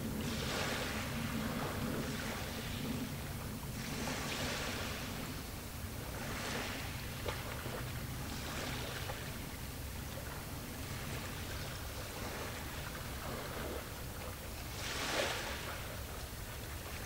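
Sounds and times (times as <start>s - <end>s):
small waves washing in: 0.0s - 17.0s.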